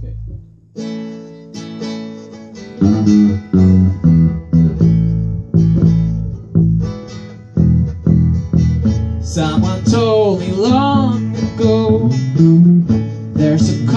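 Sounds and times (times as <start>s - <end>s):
bass guitar low notes: 0.0s - 0.8s, 2.7s - 13.9s
acoustic guitar strumming: 0.0s - 13.9s.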